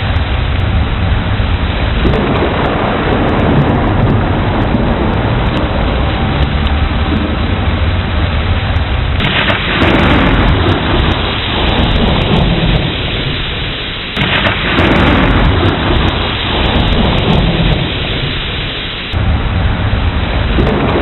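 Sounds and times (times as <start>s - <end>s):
heavy rain: 0.0s - 21.0s
thunder rolling: 0.0s - 21.0s.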